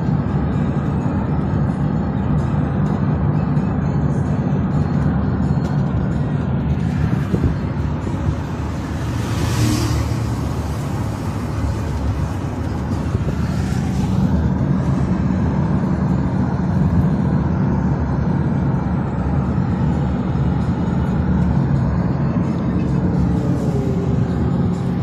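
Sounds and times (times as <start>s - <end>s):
car road noise rumble: 0.0s - 25.0s.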